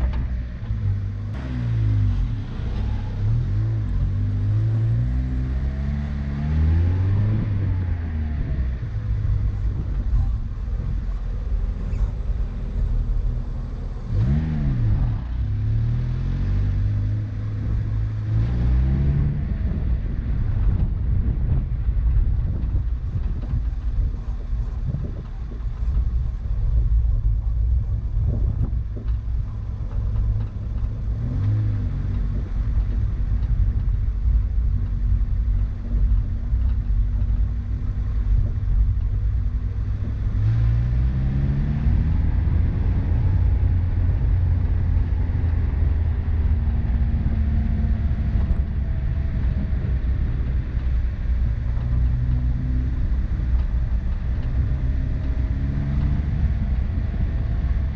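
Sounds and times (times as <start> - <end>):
car engine rumbling: 0.0 - 57.9.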